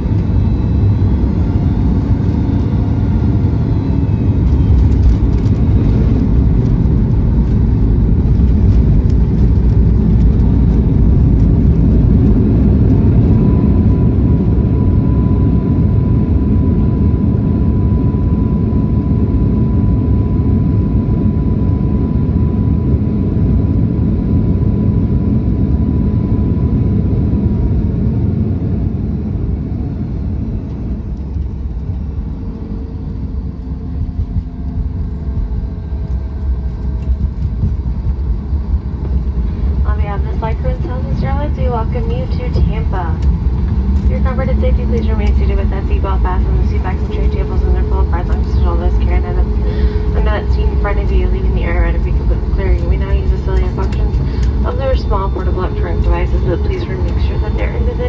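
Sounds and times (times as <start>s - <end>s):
aircraft engines and runway rumble: 0.0s - 58.0s
steady whine: 0.0s - 58.0s.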